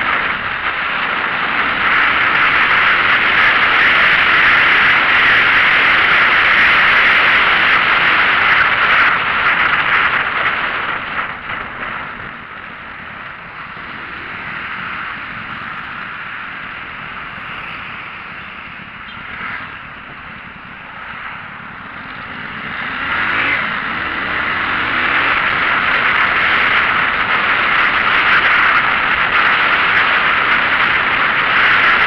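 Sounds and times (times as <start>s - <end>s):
rushing wind: 0.0s - 32.0s
vehicle road noise: 0.0s - 32.0s.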